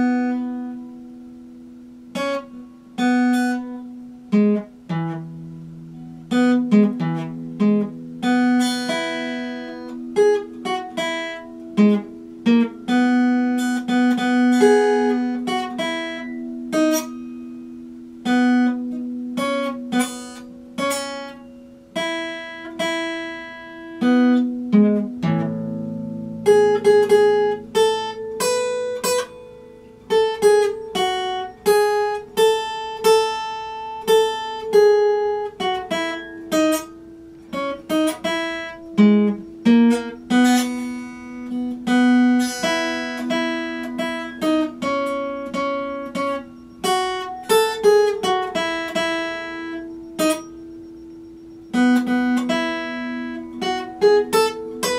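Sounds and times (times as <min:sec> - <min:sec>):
acoustic guitar fingerstyle: 0:00.0 - 0:54.9.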